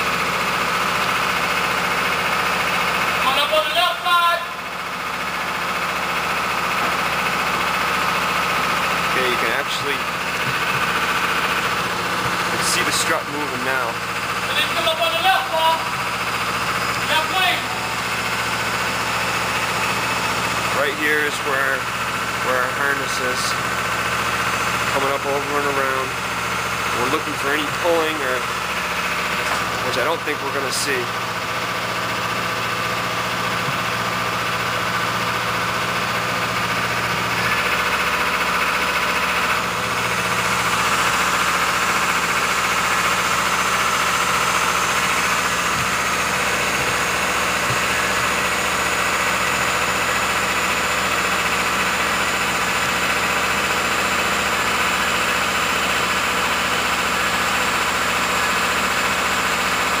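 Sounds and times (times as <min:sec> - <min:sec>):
machinery droning: 0:06.5 - 0:54.6.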